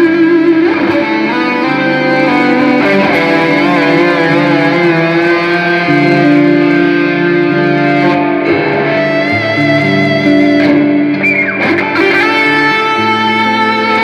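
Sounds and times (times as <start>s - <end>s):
electric guitar sustained notes: 0.0s - 14.0s.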